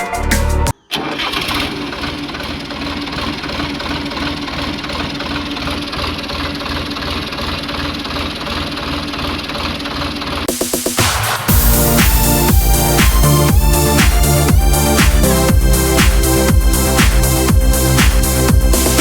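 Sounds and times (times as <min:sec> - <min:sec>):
engine idling: 0:00.9 - 0:19.0.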